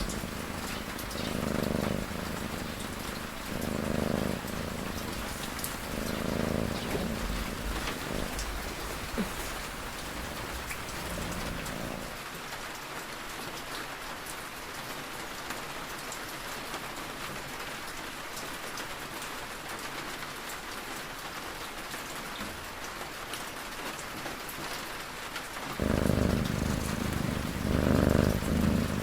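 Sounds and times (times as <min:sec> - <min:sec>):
rain pattering on a surface: 0:00.0 - 0:29.0.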